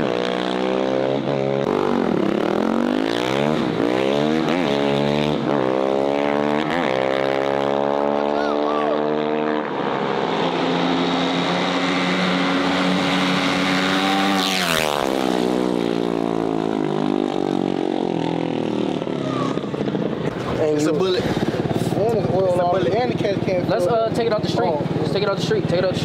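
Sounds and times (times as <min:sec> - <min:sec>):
small engine revving: 0:00.0 - 0:23.1.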